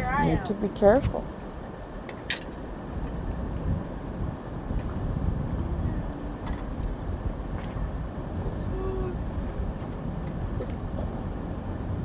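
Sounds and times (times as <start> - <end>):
low rumble of vehicle engines: 0.0 - 12.0.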